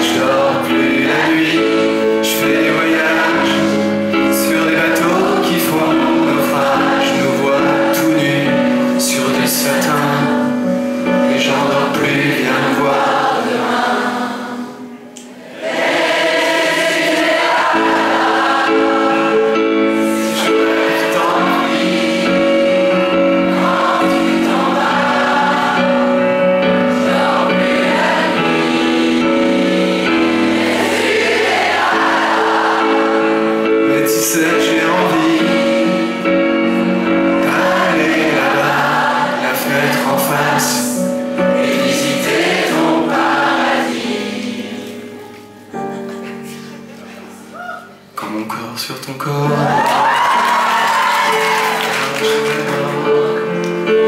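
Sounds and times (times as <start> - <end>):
audience singing along: 0.0 - 45.9, 50.4 - 54.0
piano accompaniment: 0.0 - 54.0.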